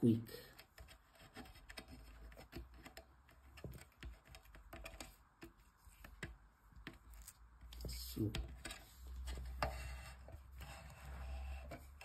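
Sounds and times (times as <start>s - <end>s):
fingers pressing rubber strip: 0.5s - 12.0s.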